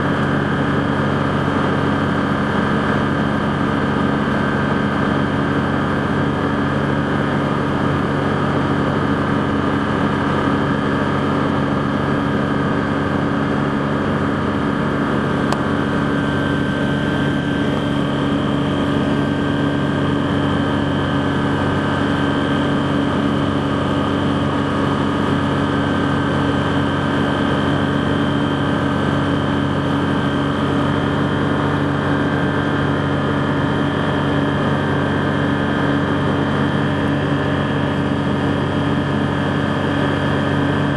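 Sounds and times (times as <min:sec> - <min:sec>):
aircraft engine and propeller drone: 0:00.0 - 0:40.9.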